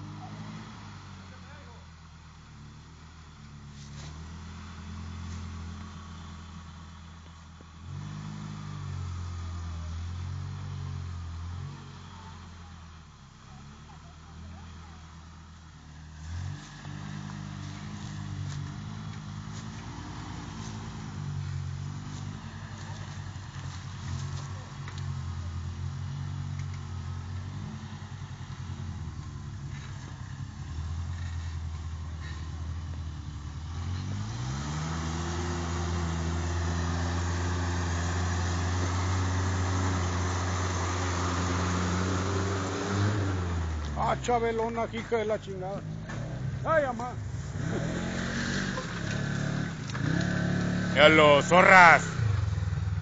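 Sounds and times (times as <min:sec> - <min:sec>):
truck engine revving: 0:00.0 - 0:53.0.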